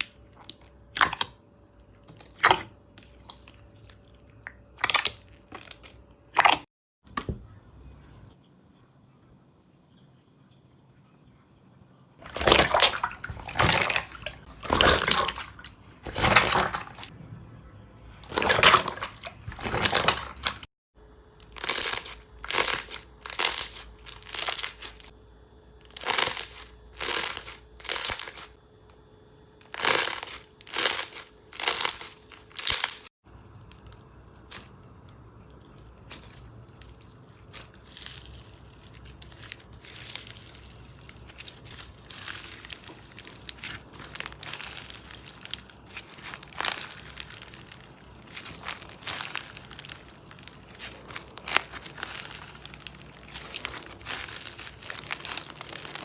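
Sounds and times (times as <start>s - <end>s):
slime squishing: 0.0s - 6.7s, 12.2s - 17.1s, 18.1s - 20.7s, 21.4s - 25.1s, 25.9s - 28.6s, 29.6s - 56.0s.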